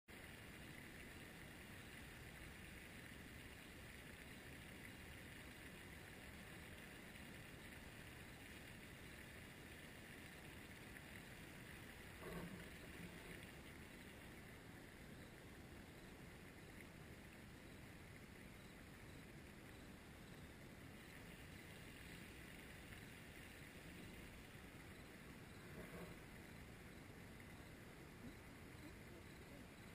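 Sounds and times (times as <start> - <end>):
faint outdoor hiss: 0.1 - 29.9.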